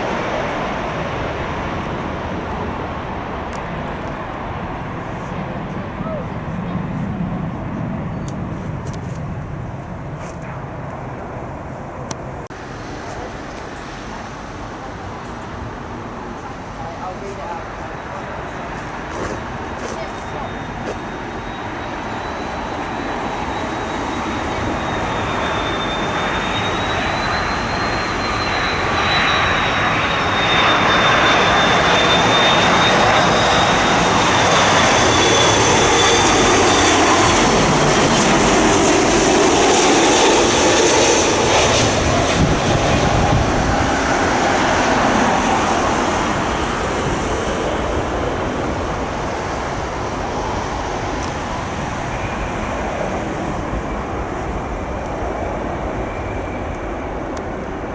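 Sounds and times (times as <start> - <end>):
high jet engine whine: 0.0 - 57.9
jet airliner passing: 0.0 - 57.9.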